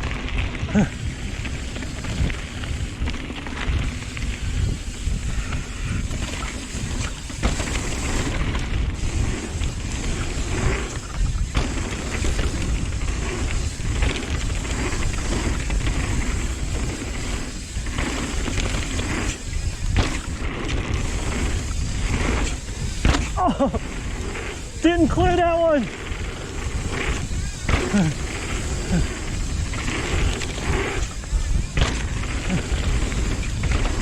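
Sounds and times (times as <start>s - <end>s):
bike clattering over bumps: 0.0s - 34.0s
constant rumble: 0.0s - 34.0s
wind buffeting microphone: 0.0s - 34.0s.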